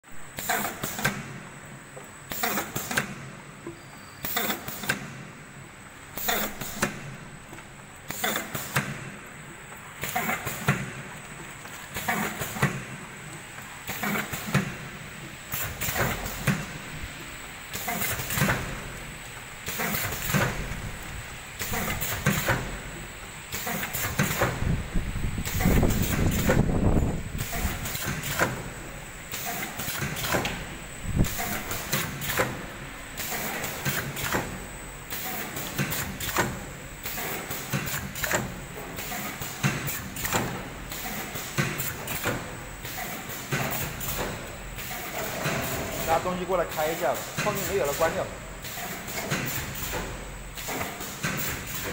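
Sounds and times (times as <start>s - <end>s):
machine knocks and air hisses: 0.2s - 1.4s, 2.3s - 5.3s, 6.1s - 9.2s, 10.0s - 11.1s, 11.9s - 19.0s, 19.6s - 51.9s
machine hum: 5.4s - 51.9s.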